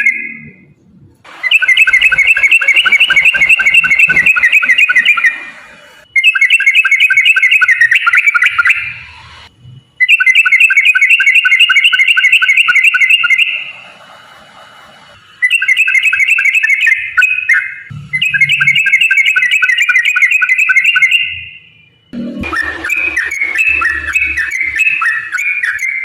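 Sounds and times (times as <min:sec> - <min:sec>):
bird singing rolling phrases: 0:01.3 - 0:09.1, 0:09.9 - 0:13.7, 0:15.3 - 0:21.9, 0:22.6 - 0:26.0.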